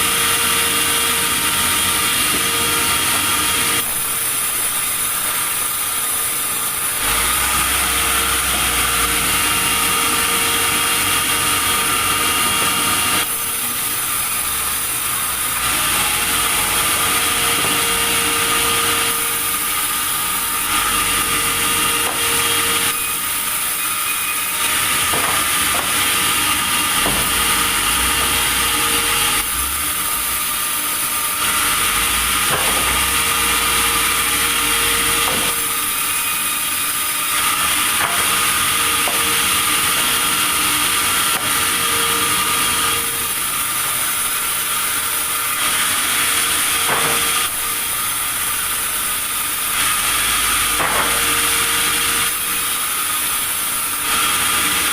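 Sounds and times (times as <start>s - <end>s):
sawmill saw and machinery running: 0.0s - 54.9s.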